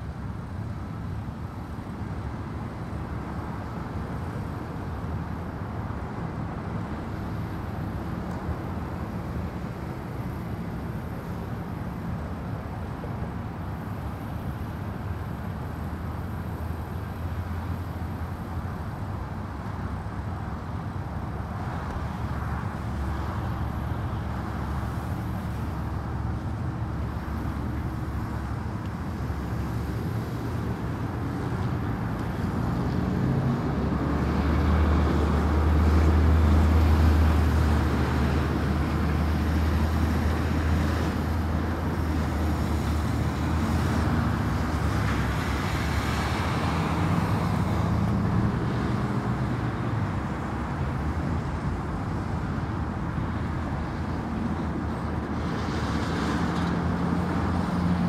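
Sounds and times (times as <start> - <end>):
highway traffic noise: 0.0 - 58.0
passing vehicles rumbling: 0.0 - 58.0.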